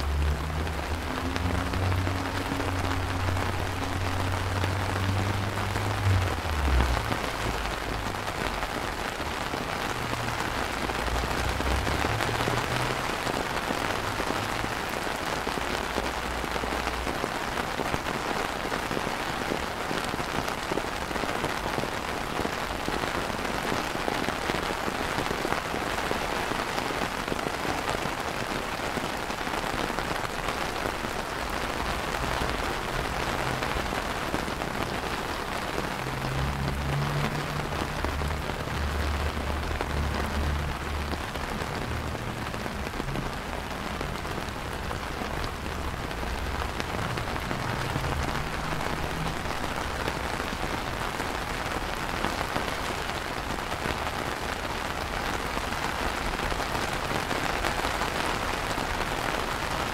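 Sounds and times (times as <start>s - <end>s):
rain on paving and plants: 0.0s - 59.9s.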